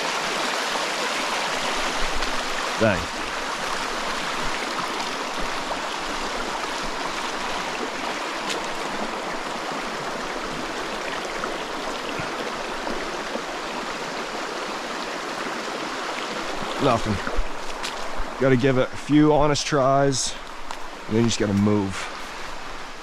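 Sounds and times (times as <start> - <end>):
stream flowing over rocks: 0.0 - 23.0.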